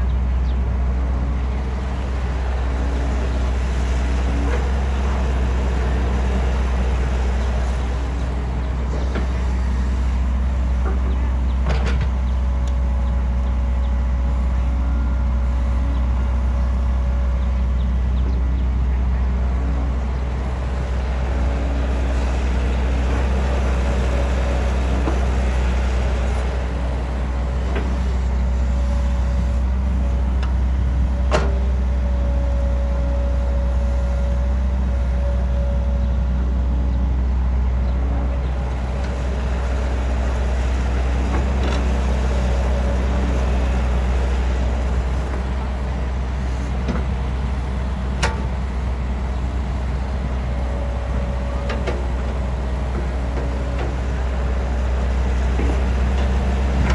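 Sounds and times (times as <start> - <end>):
diesel engine running under load: 0.0 - 56.9.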